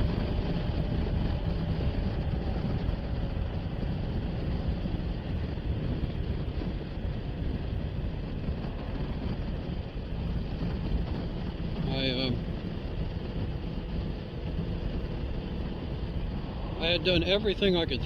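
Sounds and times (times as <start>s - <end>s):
road noise: 0.0s - 18.0s
wind rushing over helmet: 0.0s - 18.0s.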